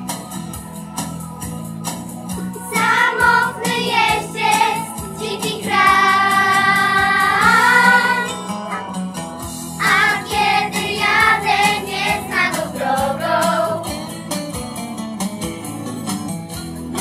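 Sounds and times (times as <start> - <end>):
musical accompaniment: 0.0 - 17.0.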